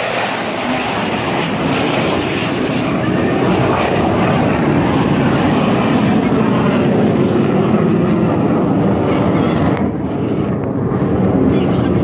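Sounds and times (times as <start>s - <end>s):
airplane flying past: 0.0s - 12.0s.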